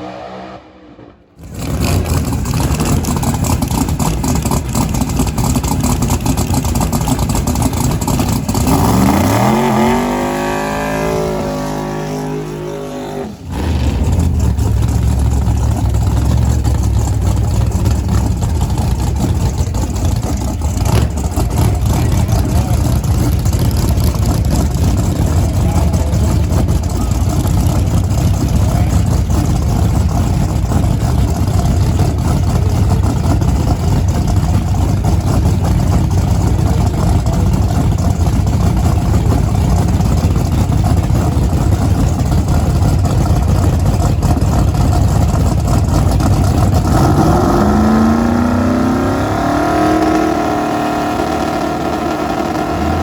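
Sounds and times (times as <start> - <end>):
drag car engine rumbling: 0.0 - 53.0.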